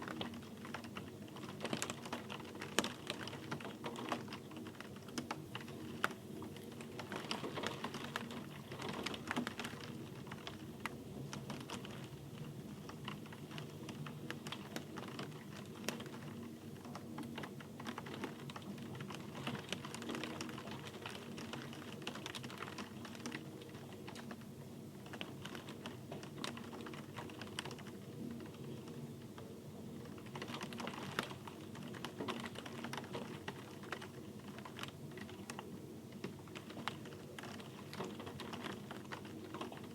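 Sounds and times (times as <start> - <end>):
raindrops clicking and ticking: 0.0 - 24.4, 25.0 - 29.4, 30.0 - 39.9
soft rain patter: 0.0 - 39.9.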